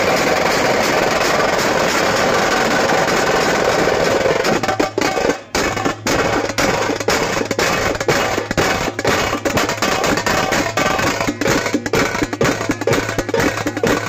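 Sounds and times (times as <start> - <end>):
fast drumming: 0.0 - 14.0.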